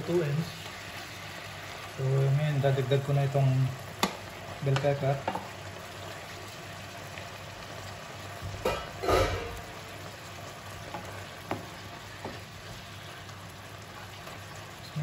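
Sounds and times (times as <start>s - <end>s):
meat and peppers sizzling in wok: 0.0s - 15.0s.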